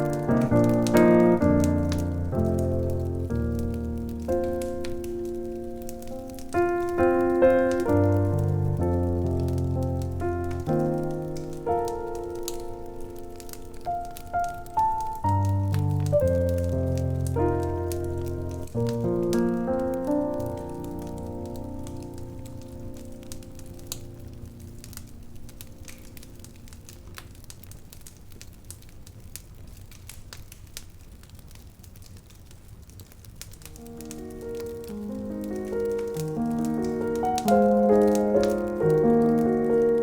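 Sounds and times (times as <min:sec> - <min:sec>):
electric piano chords: 0:00.0 - 0:27.1, 0:33.8 - 0:40.0
fire crackling and popping: 0:00.0 - 0:40.0.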